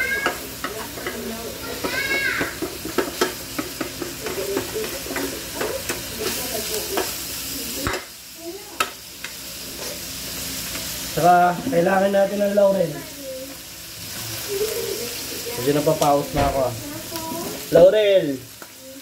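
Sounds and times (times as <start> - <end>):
meat sizzling in frying pan: 0.0 - 19.0.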